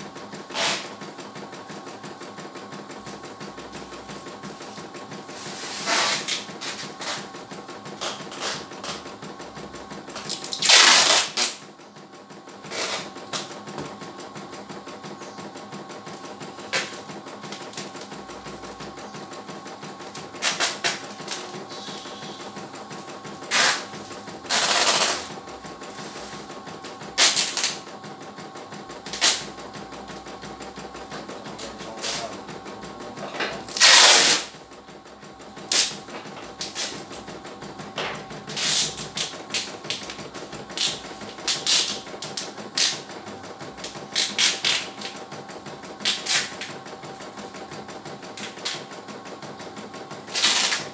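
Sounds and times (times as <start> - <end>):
embroidery machine needle stitching: 0.0 - 50.9
motor hum: 0.0 - 50.9.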